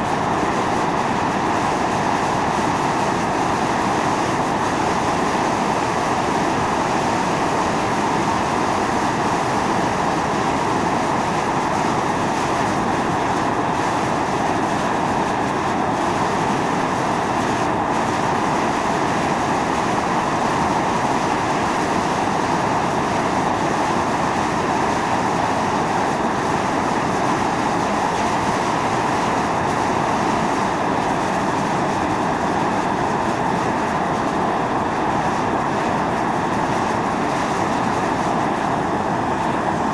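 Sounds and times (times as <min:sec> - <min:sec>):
fumarole venting steam: 0:00.0 - 0:39.9.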